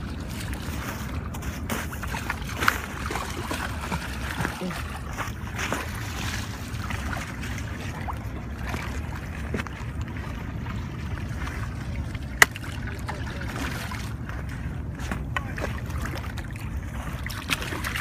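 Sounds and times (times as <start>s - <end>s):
water rushing against rocks: 0.0s - 18.0s.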